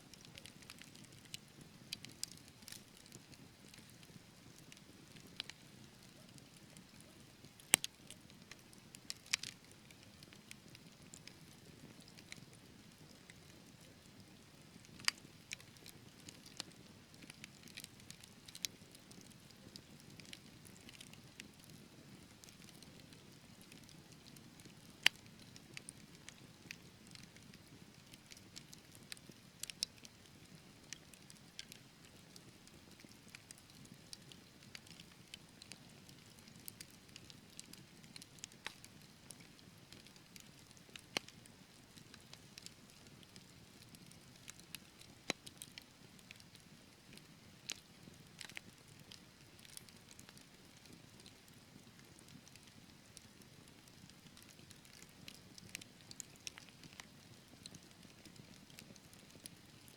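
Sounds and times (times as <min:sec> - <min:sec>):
fire crackling and popping: 0:00.1 - 0:59.9.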